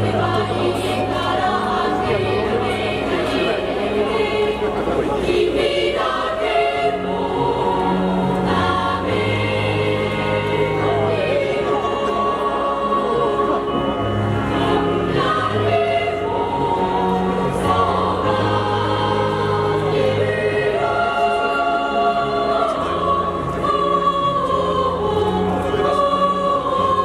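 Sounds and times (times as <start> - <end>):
children's choir singing: 0.0 - 27.0.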